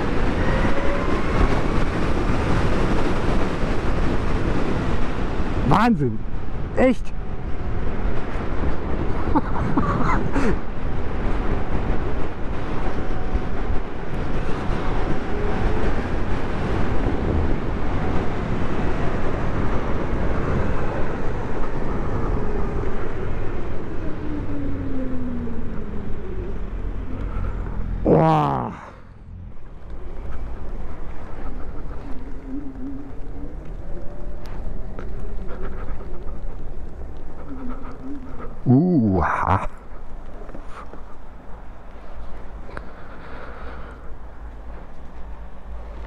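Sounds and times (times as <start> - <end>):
wind rush on microphone: 0.0 - 28.1, 28.7 - 46.0.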